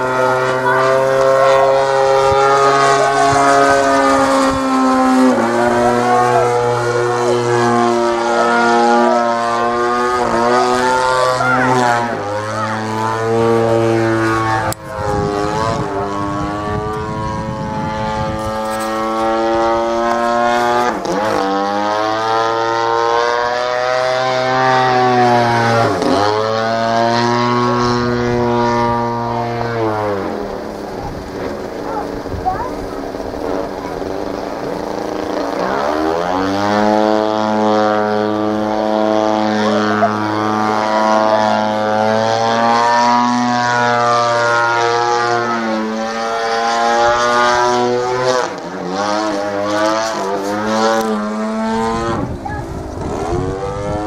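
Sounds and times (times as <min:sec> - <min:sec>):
model plane engine in flight: 0:00.0 - 0:54.0.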